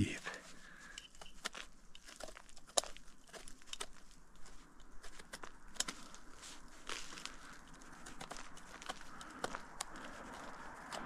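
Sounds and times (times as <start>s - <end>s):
knife scraping mushroom stem: 0.4s - 11.0s.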